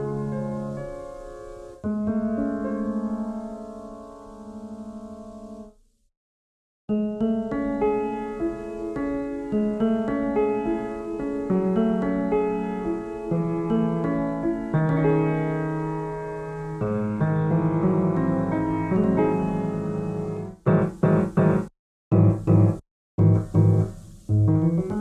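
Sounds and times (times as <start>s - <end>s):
piano playing chords: 0.0s - 5.7s, 6.9s - 25.0s.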